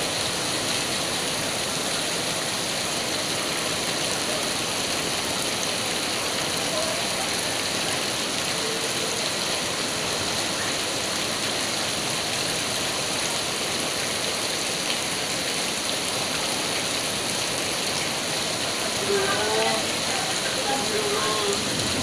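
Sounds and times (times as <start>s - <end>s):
flowing floodwater: 0.0s - 22.0s
heavy rain: 0.0s - 22.0s.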